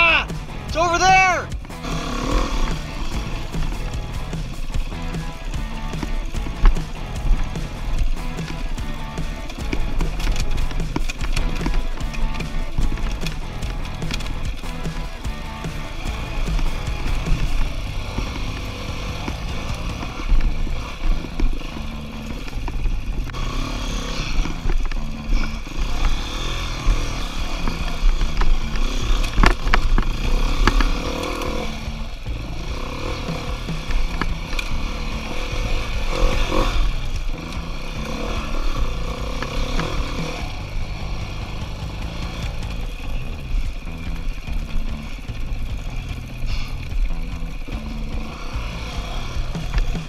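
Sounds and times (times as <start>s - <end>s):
bike knocking and clattering: 0.0s - 50.0s
dirt bike engine revving: 0.0s - 50.0s.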